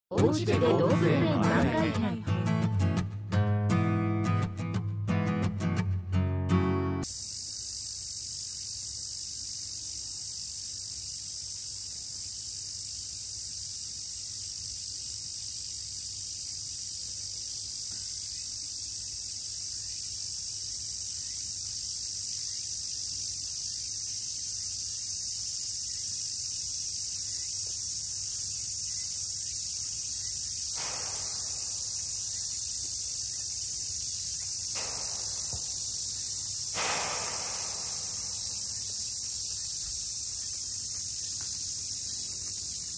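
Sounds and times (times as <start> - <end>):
insect chorus drone: 7.0 - 42.9.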